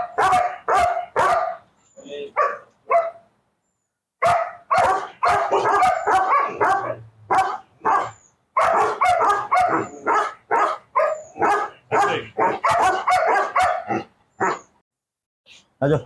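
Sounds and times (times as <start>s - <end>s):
dog barking rapidly: 0.0s - 1.7s, 2.4s - 3.3s, 4.2s - 14.7s.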